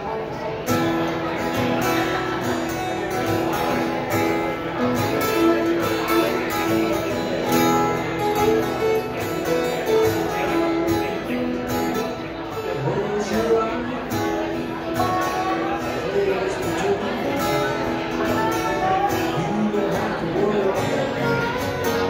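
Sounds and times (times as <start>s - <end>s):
strummed acoustic guitars: 0.0s - 22.0s
banjo: 0.5s - 22.0s.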